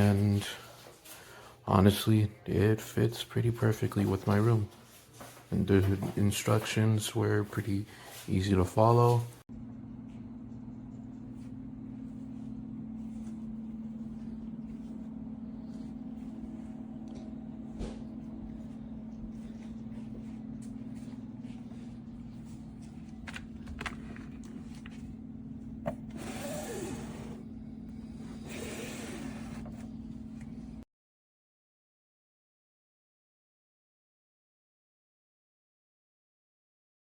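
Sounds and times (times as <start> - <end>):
steady low hum: 0.0 - 30.8.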